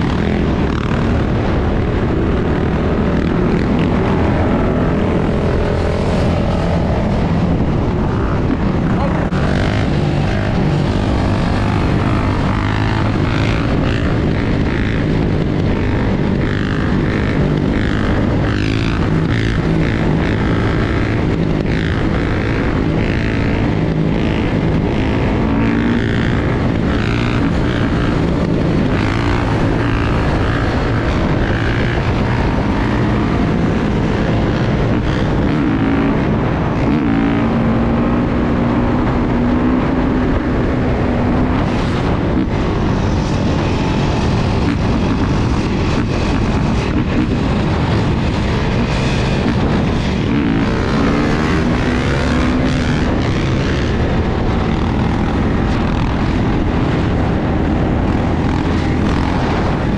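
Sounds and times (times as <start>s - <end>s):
dirt bike engine: 0.0s - 59.9s
wind noise on microphone: 0.0s - 59.9s.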